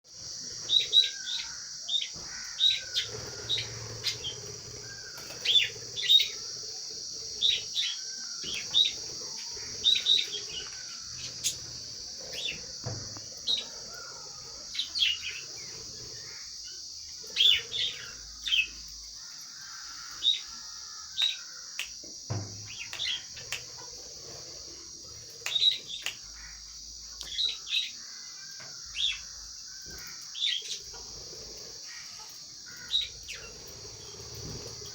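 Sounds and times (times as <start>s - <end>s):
steady high hiss: 0.1s - 34.9s
lovebirds chirping: 0.3s - 20.6s, 22.6s - 28.0s, 28.8s - 34.9s.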